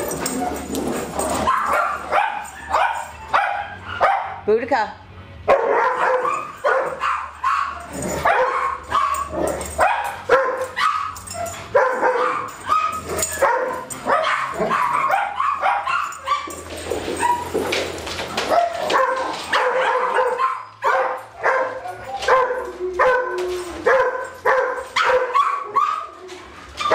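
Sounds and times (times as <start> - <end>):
dogs barking and yipping: 0.0 - 4.5, 5.4 - 26.9.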